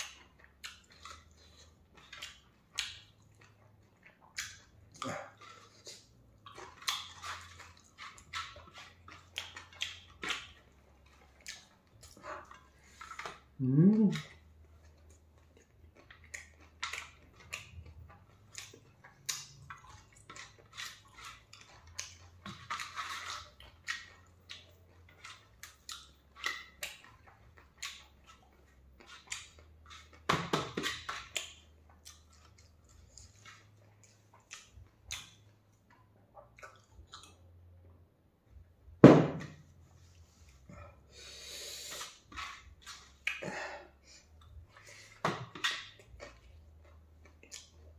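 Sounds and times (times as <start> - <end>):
chewing and mouth clicks: 0.0 - 38.6, 41.8 - 43.5, 44.2 - 47.9.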